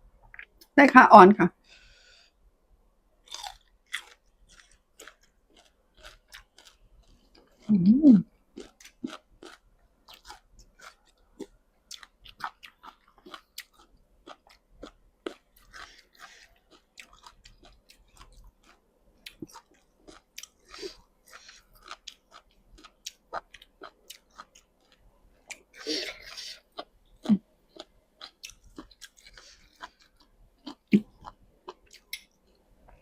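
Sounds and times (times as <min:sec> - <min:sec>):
person chewing with wet mouth smacks: 0:03.3 - 0:07.7, 0:08.6 - 0:26.9, 0:27.7 - 0:32.3.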